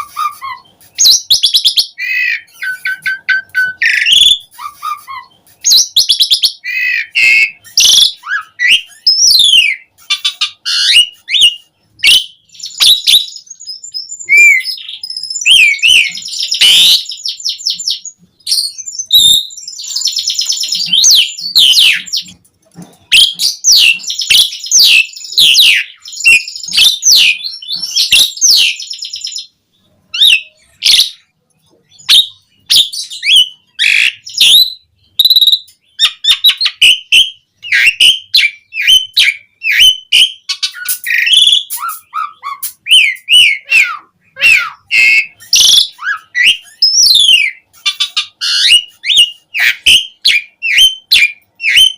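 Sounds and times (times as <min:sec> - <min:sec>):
starling singing: 0:00.0 - 0:22.4, 0:23.0 - 0:51.9.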